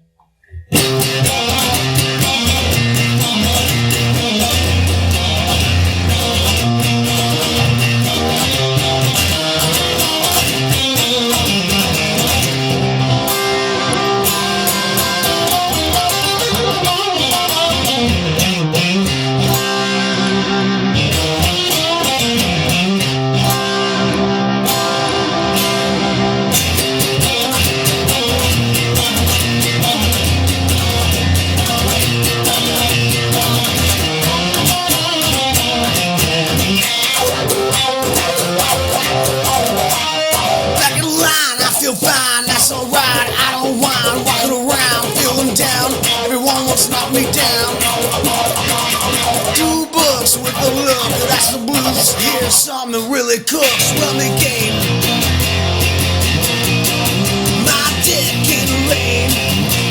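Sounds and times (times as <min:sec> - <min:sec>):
bass guitar: 0:00.0 - 0:59.9
guitar: 0:00.0 - 0:59.9.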